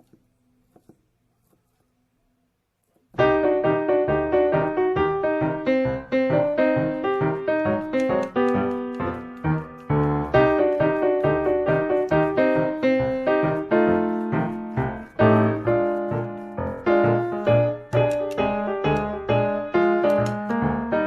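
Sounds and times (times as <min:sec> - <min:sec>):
piano music: 0:03.2 - 0:21.0.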